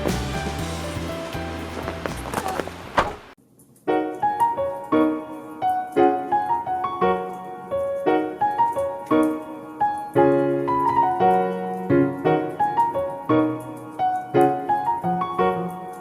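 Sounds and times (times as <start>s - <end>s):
piano melody over chords: 0.0s - 3.0s, 3.8s - 16.0s.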